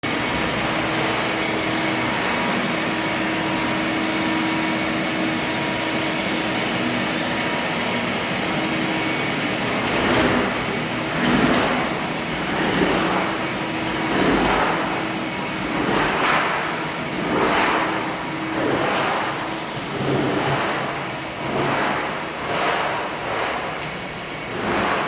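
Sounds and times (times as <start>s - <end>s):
machine whirring and humming: 0.0s - 25.0s.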